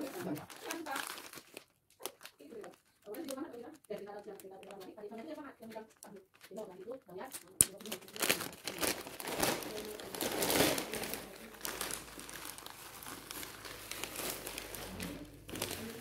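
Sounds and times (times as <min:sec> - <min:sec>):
plastic mailer bag crinkling: 0:00.0 - 0:16.0.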